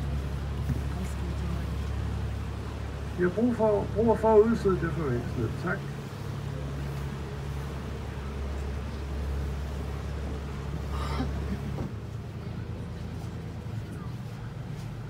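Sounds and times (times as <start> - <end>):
boat engine humming: 0.0 - 15.0
rushing water and air: 0.0 - 15.0.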